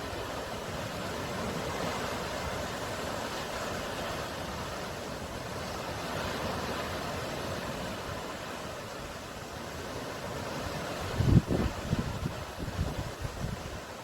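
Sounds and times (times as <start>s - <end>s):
sea surf washing on shore: 0.0s - 14.0s.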